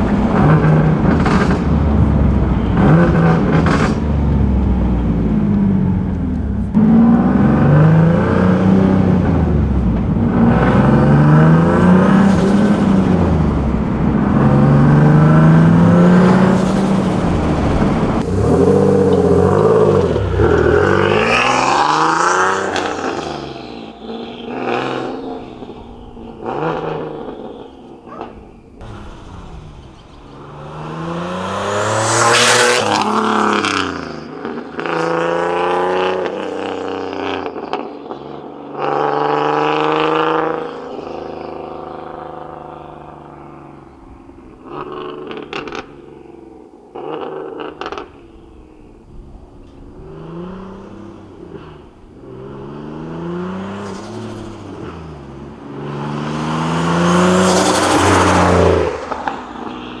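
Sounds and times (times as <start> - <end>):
car cruising: 0.0 - 60.0
car engine accelerating: 0.0 - 60.0.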